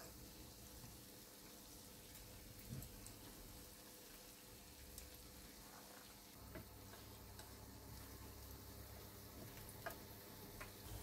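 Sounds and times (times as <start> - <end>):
fritters sizzling in oil: 0.0 - 11.0.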